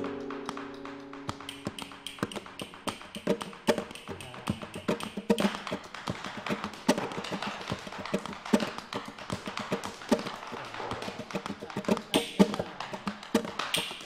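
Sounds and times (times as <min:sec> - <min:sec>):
dancer's shoes tapping on tiled floor: 0:00.0 - 0:14.0.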